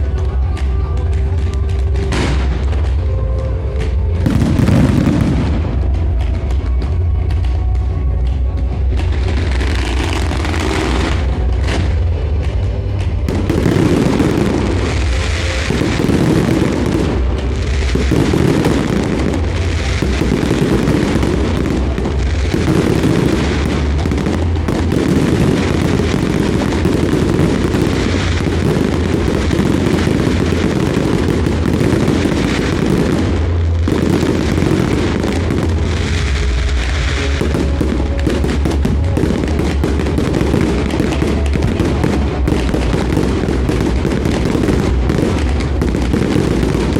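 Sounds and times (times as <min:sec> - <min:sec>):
fireworks booming and crackling: 0:00.0 - 0:46.9.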